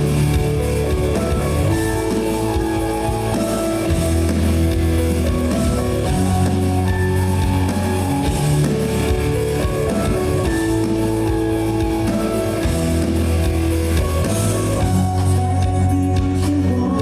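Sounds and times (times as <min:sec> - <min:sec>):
drum kit: 0:00.0 - 0:17.0
electric guitars playing chords: 0:00.0 - 0:17.0.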